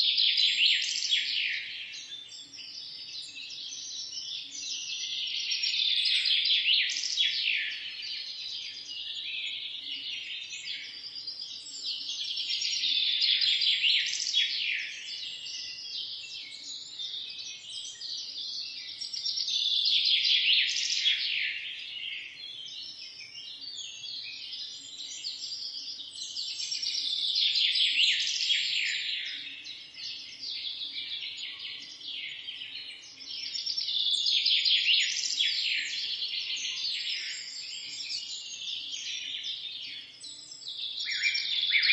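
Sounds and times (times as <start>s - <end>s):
birds chirping and singing: 0.0s - 41.9s.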